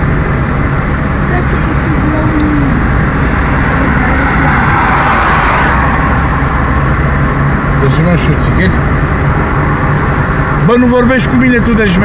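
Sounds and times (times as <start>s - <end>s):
car engine hum: 0.0s - 12.0s
road noise: 0.0s - 12.0s.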